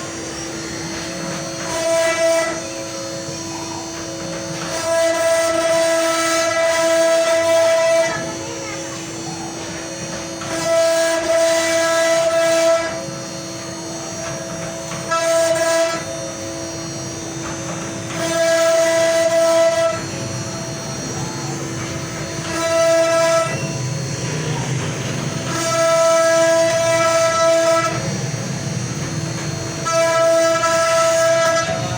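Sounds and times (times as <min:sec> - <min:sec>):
router cutting high tone: 0:00.0 - 0:31.9
wood router spindle whine: 0:00.0 - 0:31.9.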